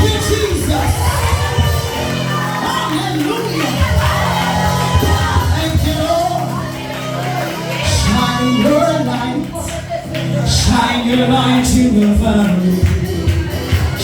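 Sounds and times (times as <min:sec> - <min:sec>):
band playing worship music: 0:00.0 - 0:14.0
steady bass line: 0:00.0 - 0:14.0.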